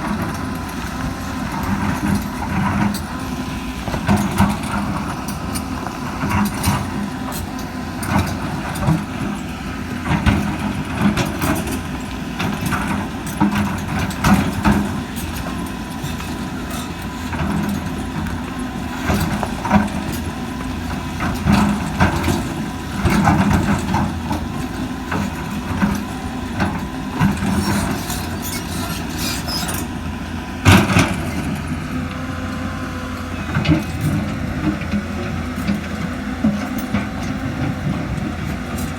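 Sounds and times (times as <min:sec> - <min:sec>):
excavator diesel engine running: 0:00.0 - 0:38.9
knocks and clanks loading sand: 0:00.0 - 0:38.9.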